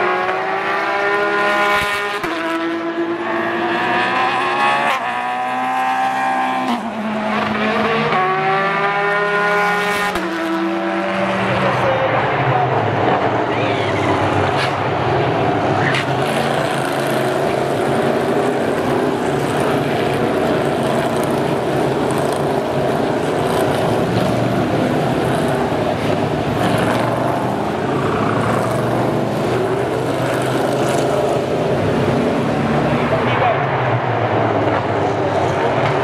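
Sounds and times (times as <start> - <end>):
racing car engines droning: 0.0 - 36.0.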